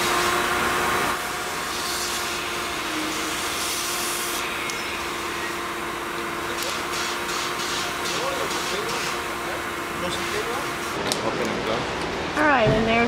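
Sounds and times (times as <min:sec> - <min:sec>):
shop vacuum running: 0:00.0 - 0:13.0.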